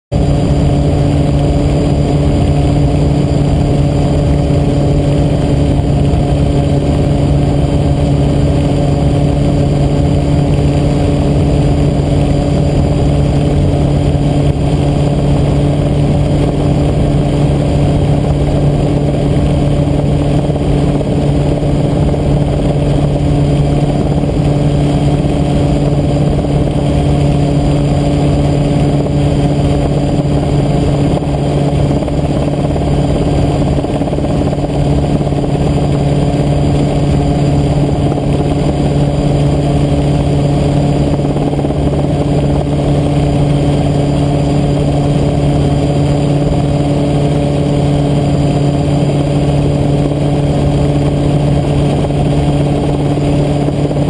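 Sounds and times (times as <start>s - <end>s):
helicopter engine and rotors droning: 0.1s - 54.0s.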